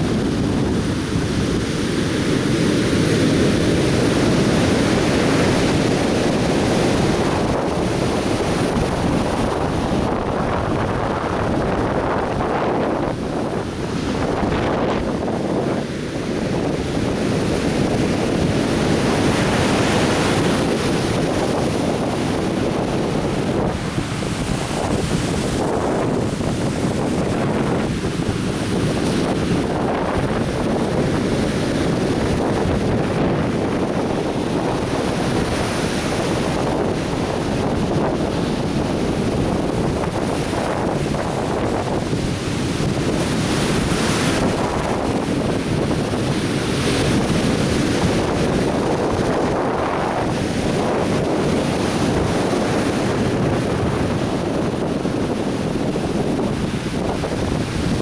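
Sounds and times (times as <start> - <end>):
ocean surf washing onto beach: 0.0 - 58.0
wind buffeting microphone: 0.0 - 58.0.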